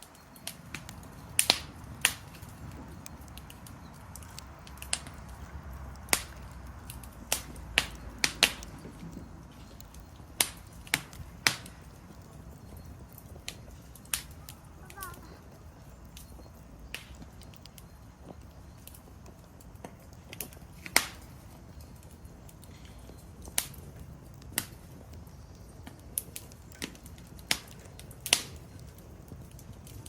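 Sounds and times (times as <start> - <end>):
fire popping: 0.0 - 30.0
wood fire crackling: 0.0 - 30.0.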